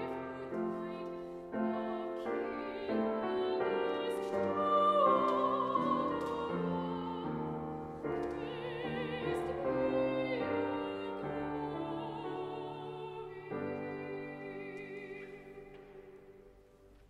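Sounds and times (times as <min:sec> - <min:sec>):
woman singing classical solo: 0:00.0 - 0:16.3.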